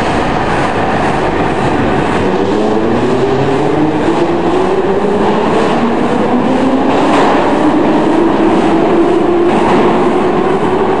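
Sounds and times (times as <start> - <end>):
metro train rumbling: 0.0 - 11.0
train humming tone: 0.0 - 11.0.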